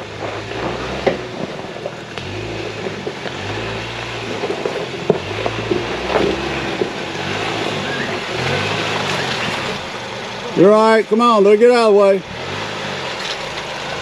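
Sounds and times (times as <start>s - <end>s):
clicks and knocks from tyres: 0.0s - 10.2s, 12.8s - 14.0s
engine running at low speed: 0.0s - 14.0s.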